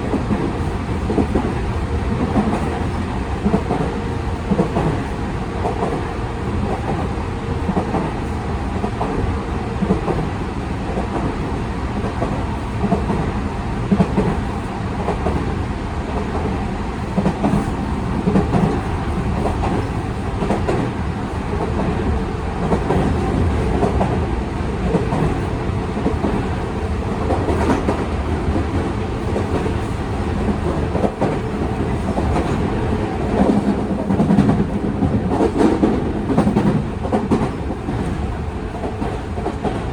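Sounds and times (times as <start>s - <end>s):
rail-joint clicks: 0.0s - 15.5s, 16.1s - 39.9s
train wheels rumbling on track: 0.0s - 39.9s.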